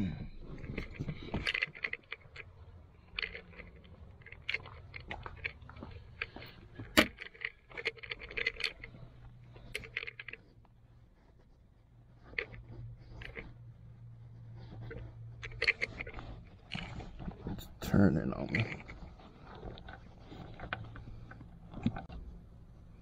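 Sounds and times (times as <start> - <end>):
clicks scrapes and rustles: 0.3 - 23.0.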